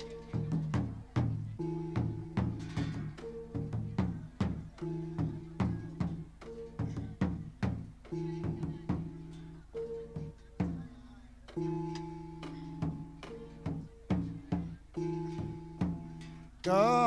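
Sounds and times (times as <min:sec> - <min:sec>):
pounding drum strikes: 0:00.0 - 0:16.4
held instrumental tones: 0:00.0 - 0:17.0.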